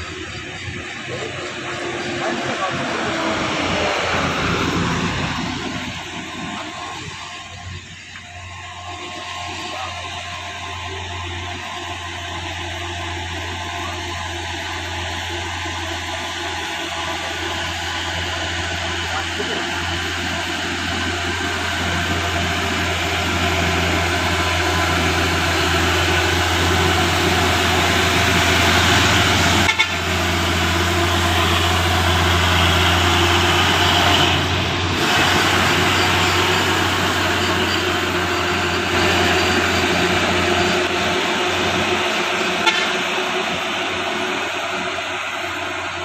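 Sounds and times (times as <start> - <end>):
diesel truck engine droning: 0.0 - 46.0
road noise: 0.0 - 46.0.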